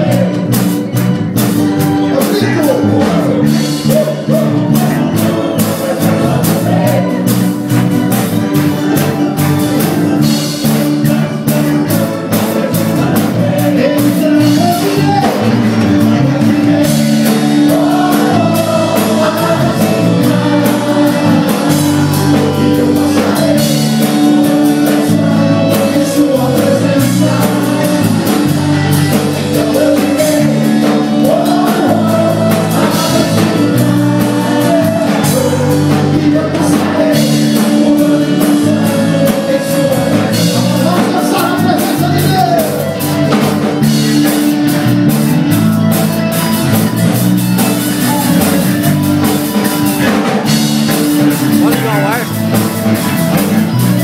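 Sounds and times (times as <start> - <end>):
gospel worship song: 0.0 - 54.0.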